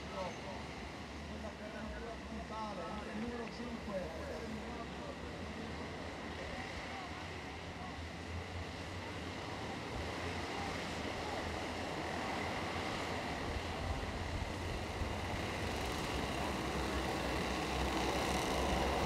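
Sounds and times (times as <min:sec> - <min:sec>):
distant kart engines droning: 0:00.0 - 0:19.0.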